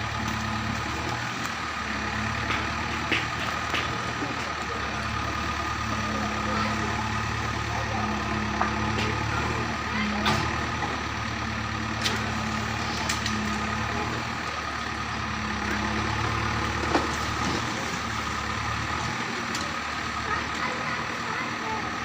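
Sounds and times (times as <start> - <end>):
machine engine humming: 0.0 - 22.0.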